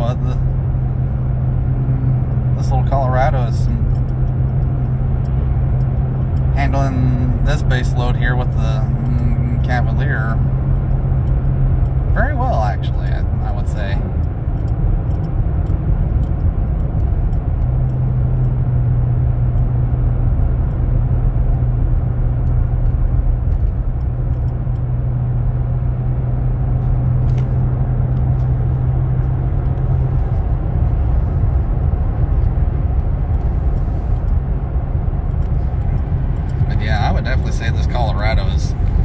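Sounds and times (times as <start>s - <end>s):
engine and road noise inside cab: 0.0s - 39.0s
low engine drone: 0.0s - 39.0s.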